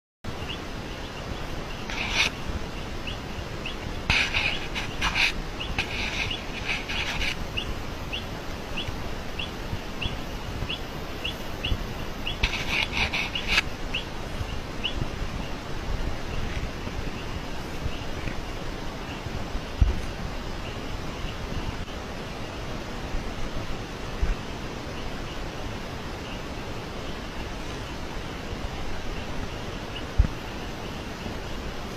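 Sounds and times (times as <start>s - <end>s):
noisy bursts: 0.3s - 31.9s
steady hiss: 0.3s - 31.9s.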